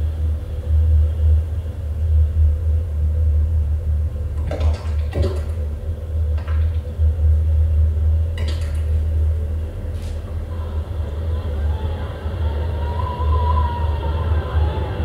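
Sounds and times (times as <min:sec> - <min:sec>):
deep rumbling drone: 0:00.0 - 0:15.0
faint constant hum: 0:00.0 - 0:15.0.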